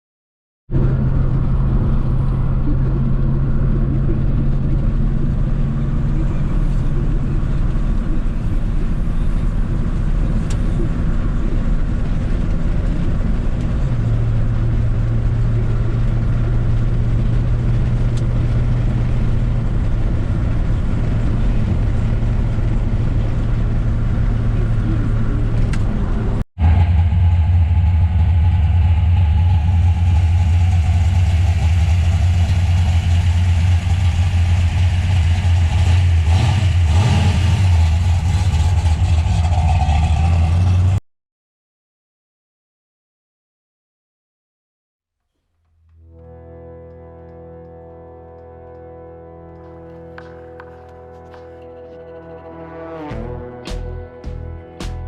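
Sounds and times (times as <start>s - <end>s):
deeper idling engine: 0.7s - 41.0s, 47.0s - 55.0s
car engine idling: 0.8s - 41.0s, 48.4s - 55.0s.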